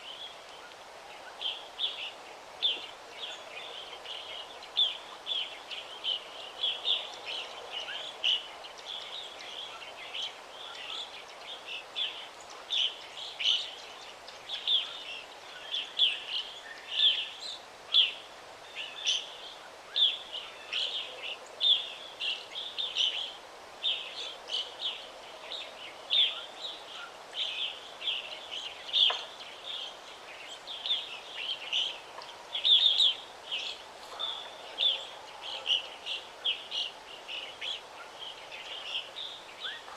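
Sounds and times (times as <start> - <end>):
faint background hiss: 0.0 - 39.9
forest birds chirping: 0.0 - 39.9.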